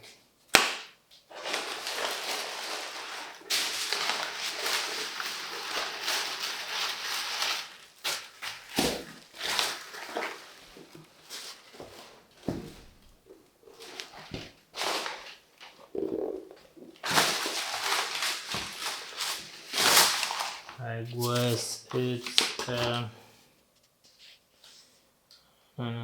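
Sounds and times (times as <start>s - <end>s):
packaging crinkling: 1.3s - 23.0s.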